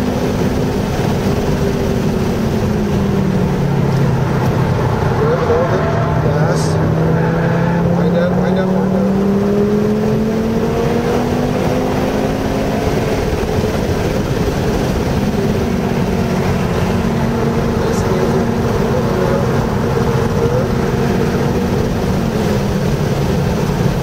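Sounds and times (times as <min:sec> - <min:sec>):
car engine running: 0:00.0 - 0:24.0
tyre and road noise: 0:00.0 - 0:24.0.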